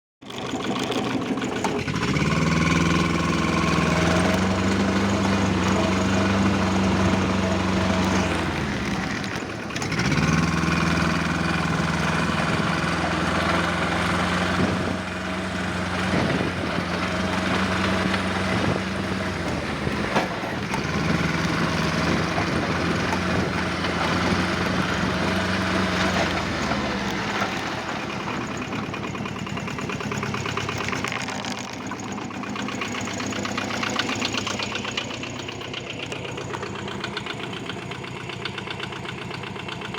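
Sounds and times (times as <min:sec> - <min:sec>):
tractor diesel engine running: 0:00.2 - 0:39.9.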